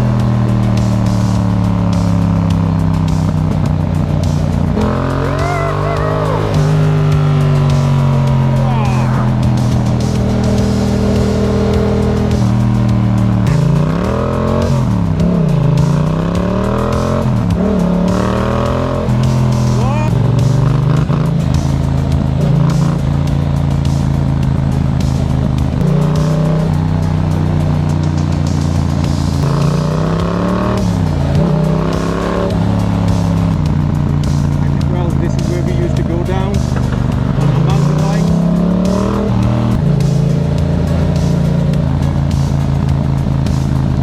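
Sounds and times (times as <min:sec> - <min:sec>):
motorcycle engine idling and revving: 0:00.0 - 0:44.0.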